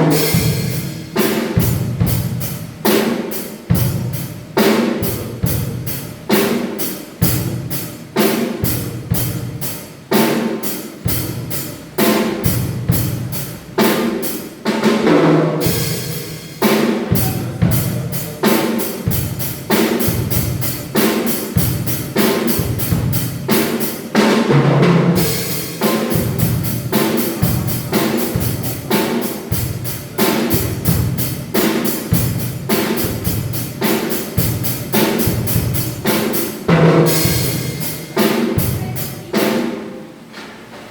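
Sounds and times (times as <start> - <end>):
drum kit playing a beat: 0.0 - 40.9.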